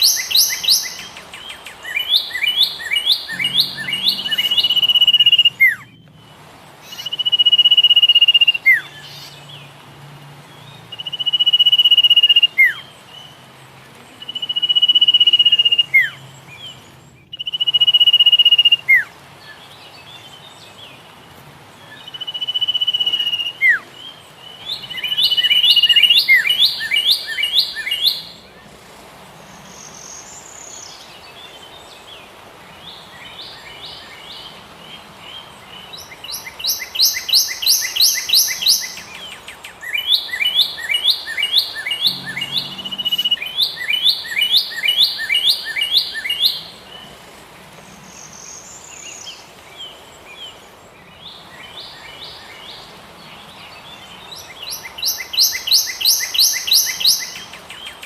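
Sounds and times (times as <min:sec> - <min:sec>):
songbird singing: 0:00.0 - 0:58.0
steady background hiss: 0:00.0 - 0:58.0.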